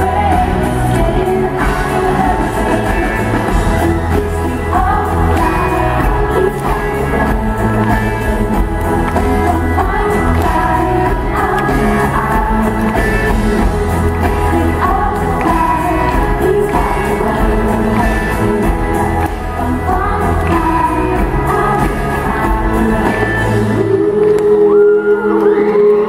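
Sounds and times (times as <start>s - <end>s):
steady bass: 0.0s - 24.2s
live pop band playing: 0.0s - 26.0s
woman singing into microphone: 0.0s - 26.0s.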